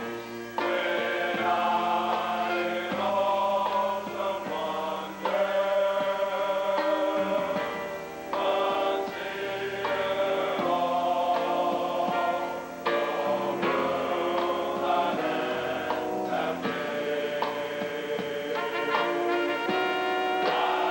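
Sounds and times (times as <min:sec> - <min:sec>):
choir singing a gospel hymn: 0:00.0 - 0:20.9.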